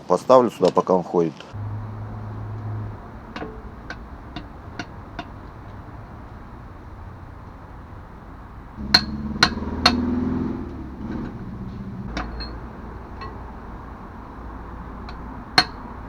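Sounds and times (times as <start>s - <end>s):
hammer striking metal: 1.6s - 16.0s
low hum: 1.6s - 16.0s.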